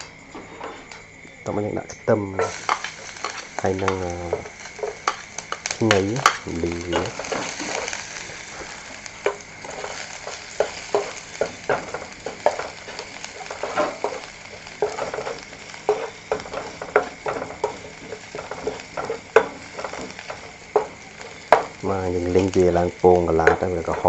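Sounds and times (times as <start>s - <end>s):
garlic sizzling in hot oil: 0.0s - 24.0s.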